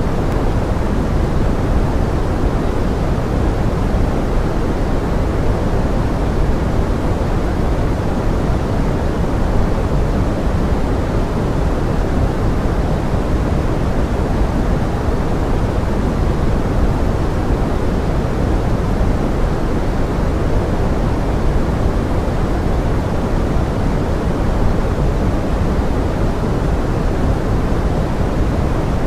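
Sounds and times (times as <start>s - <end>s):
pink noise: 0.0s - 29.0s.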